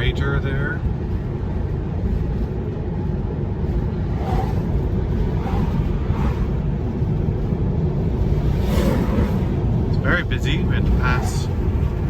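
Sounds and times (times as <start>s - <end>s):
tyres rumbling on pavement: 0.0s - 12.0s
wind noise: 0.0s - 12.0s.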